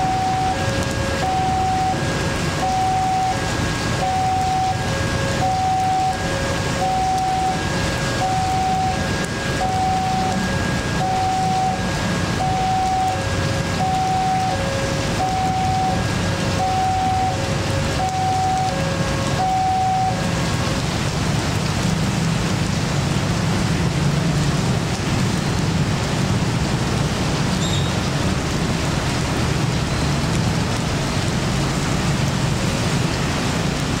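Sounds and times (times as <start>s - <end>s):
heavy rain: 0.0s - 34.0s
low traffic rumble: 0.0s - 34.0s.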